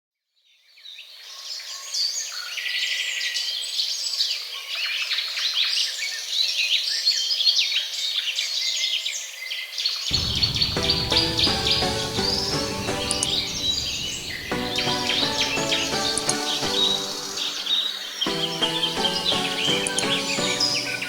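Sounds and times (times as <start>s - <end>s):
flock of birds chirping: 1.0s - 21.0s.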